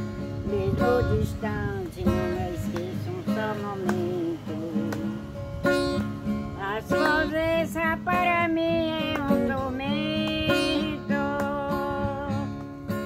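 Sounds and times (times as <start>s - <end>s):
acoustic guitar strumming: 0.0s - 13.0s
person singing: 0.4s - 5.3s, 6.6s - 12.7s.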